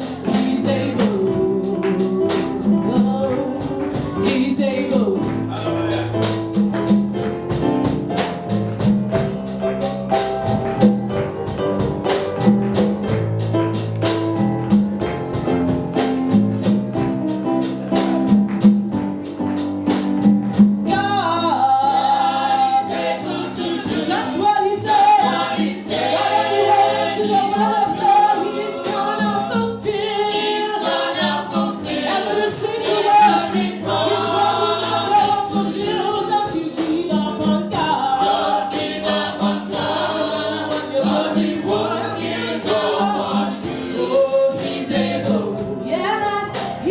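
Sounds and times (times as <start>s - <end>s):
bass: 0.0s - 46.9s
gospel music with singing: 0.0s - 46.9s
percussion beat: 0.0s - 46.9s.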